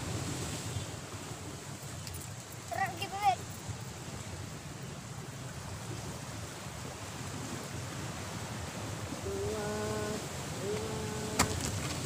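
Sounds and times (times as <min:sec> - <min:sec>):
small waves against rocks: 0:00.0 - 0:12.0.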